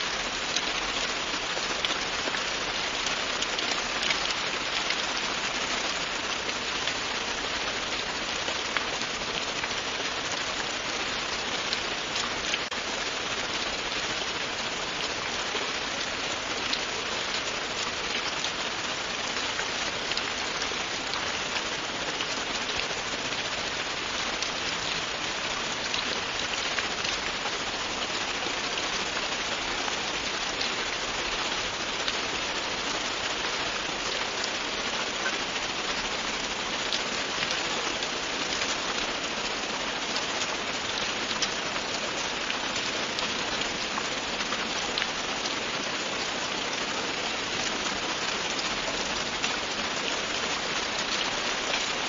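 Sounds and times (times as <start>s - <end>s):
rain falling on a surface: 0.0s - 52.0s.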